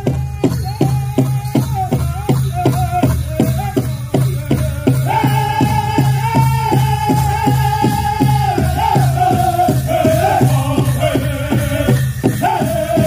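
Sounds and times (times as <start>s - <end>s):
large drum steady beat: 0.0s - 13.0s
men singing in high register: 0.0s - 13.0s.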